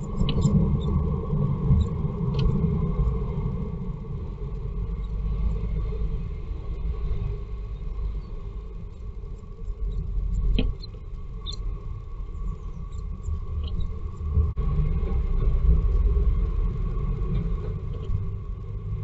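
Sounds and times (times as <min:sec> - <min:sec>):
faint constant hum: 0:00.0 - 0:19.0
low rumble: 0:00.0 - 0:19.0.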